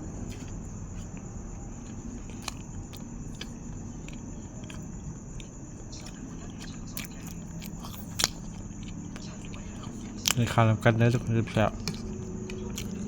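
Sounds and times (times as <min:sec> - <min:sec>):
low background rumble: 0:00.0 - 0:13.0
person chewing food: 0:00.0 - 0:13.0.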